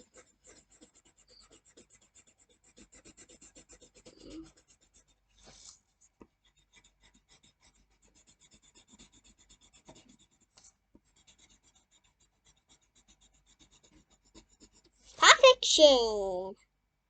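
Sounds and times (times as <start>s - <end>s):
pencil shading on paper: 0.0s - 15.6s.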